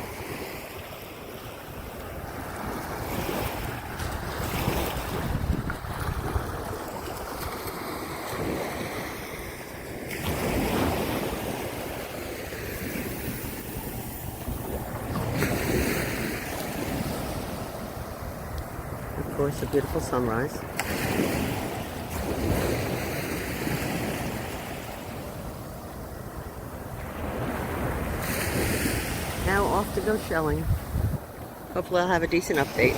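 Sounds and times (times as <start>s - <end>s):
surf washing onto beach: 0.0s - 32.9s
wind buffeting microphone: 1.6s - 32.9s.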